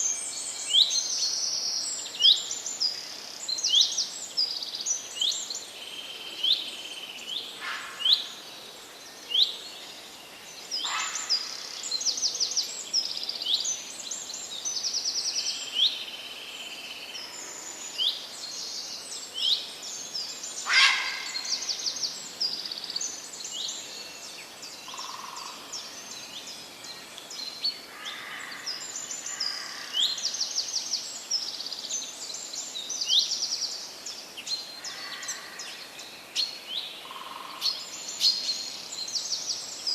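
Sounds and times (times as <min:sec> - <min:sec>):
faint background hiss: 0:00.0 - 0:39.9
songbirds singing and chirping: 0:00.0 - 0:39.9.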